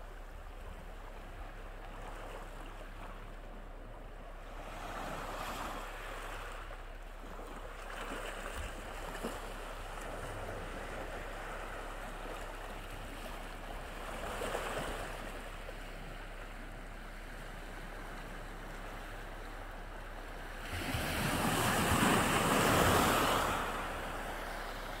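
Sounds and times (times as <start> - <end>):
sea waves washing on shore: 0.0 - 25.0.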